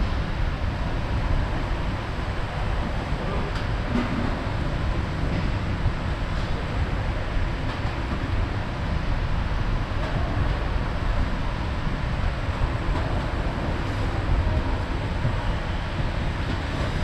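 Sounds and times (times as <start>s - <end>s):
steady background rumble: 0.0s - 17.0s.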